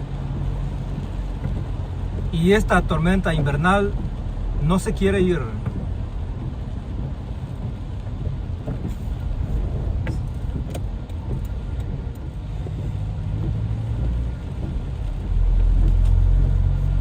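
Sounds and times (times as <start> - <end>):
road vehicle rumble: 0.0 - 17.0.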